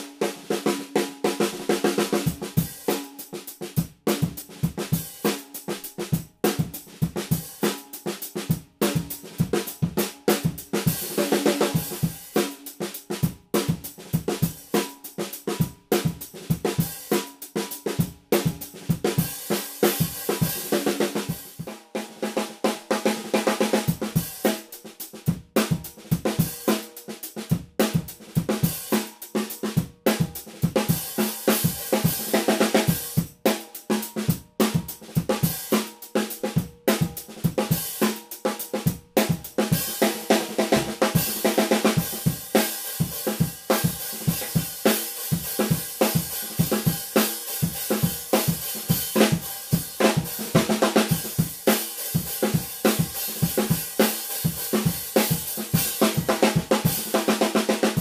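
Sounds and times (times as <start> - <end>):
snare drum played with sticks: 0.0 - 58.0.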